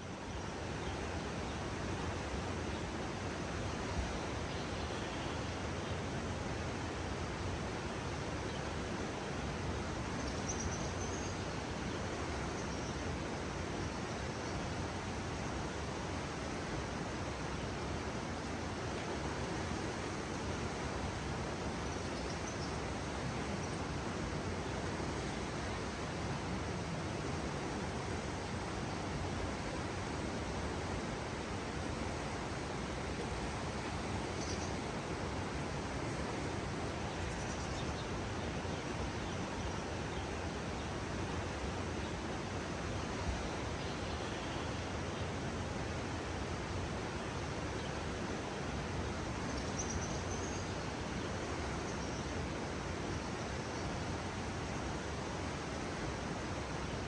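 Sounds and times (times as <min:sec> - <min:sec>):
flowing water rushing: 0:00.2 - 0:39.1, 0:39.9 - 0:57.0.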